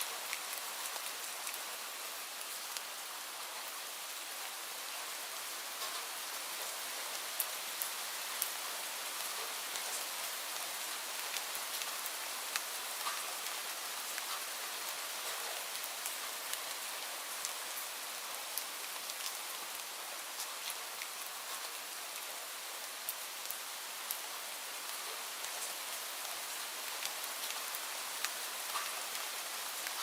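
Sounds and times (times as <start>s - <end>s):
light rain falling: 0.0s - 30.0s
raindrops ticking on a surface: 0.0s - 30.0s.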